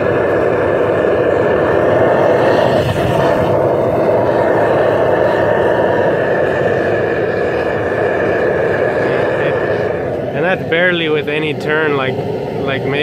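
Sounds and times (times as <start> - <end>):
propane burner flame rushing: 0.0 - 13.0.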